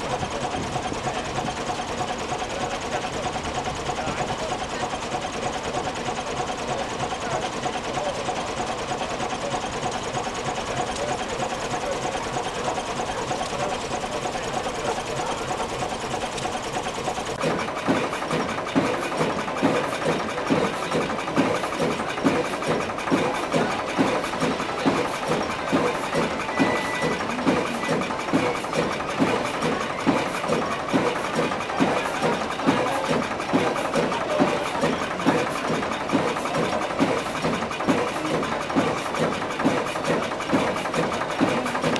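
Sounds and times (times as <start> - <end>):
flywheel engine thumping: 0.0 - 41.9
stationary engine running: 0.0 - 41.9.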